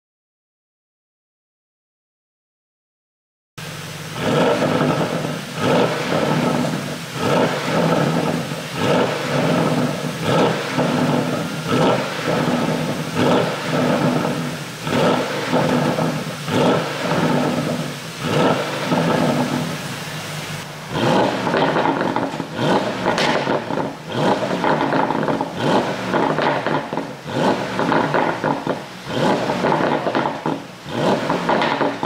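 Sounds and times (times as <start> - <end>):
car engine revving: 3.6 - 32.0
exhaust pops and crackles: 3.6 - 32.0.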